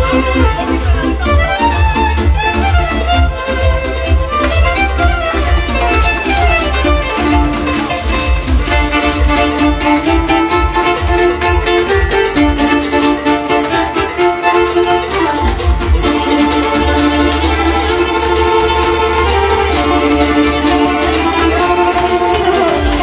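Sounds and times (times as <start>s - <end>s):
beat with heavy bass: 0.0s - 23.0s
violin melody: 0.0s - 23.0s.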